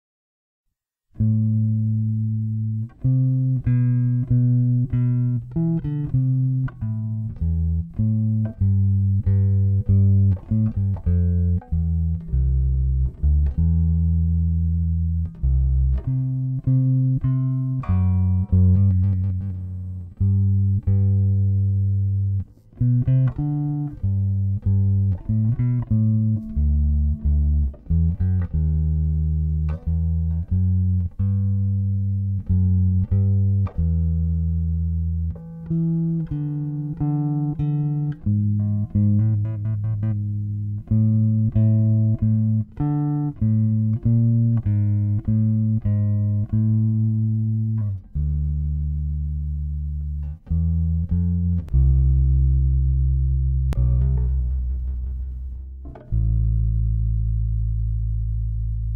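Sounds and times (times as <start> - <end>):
electric bass melody: 1.0 - 58.9.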